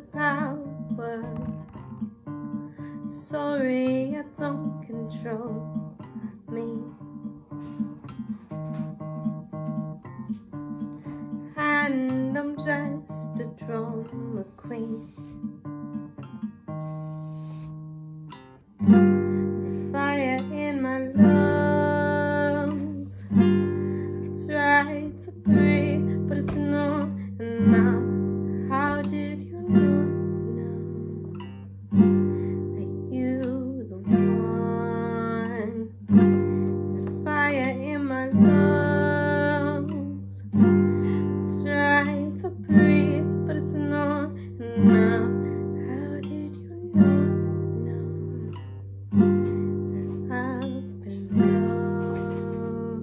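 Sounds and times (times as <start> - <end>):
woman singing: 0.0 - 7.4, 10.5 - 15.5, 19.1 - 31.5, 32.5 - 48.7, 50.1 - 53.0
strummed classical guitar: 0.0 - 53.0.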